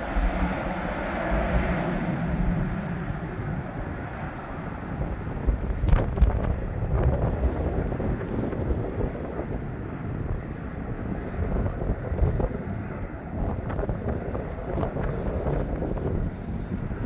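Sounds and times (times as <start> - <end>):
jet engines rumbling: 0.0 - 17.0
wind buffeting microphone: 0.0 - 17.0.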